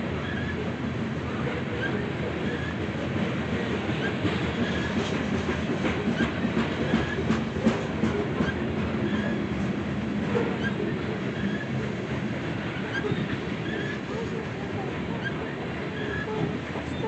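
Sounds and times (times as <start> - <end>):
railroad cars rumbling past: 0.0 - 17.0
wheels clacking over rail joints: 1.8 - 17.0.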